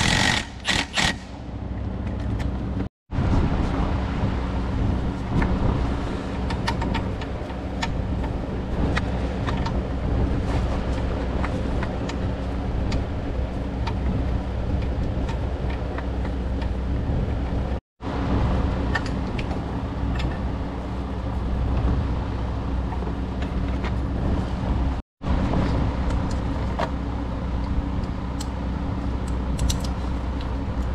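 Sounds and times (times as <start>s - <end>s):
low mechanical hum: 0.0s - 30.9s.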